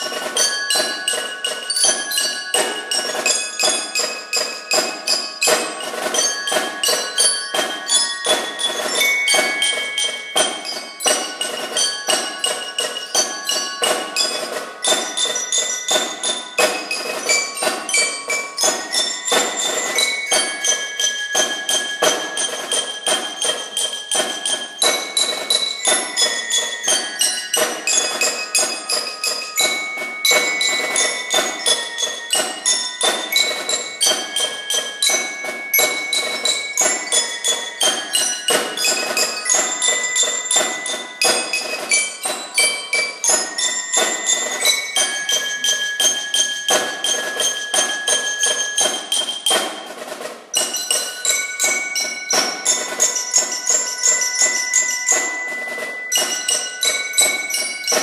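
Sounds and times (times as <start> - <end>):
tuned bells playing a tune: 0.0 - 58.0.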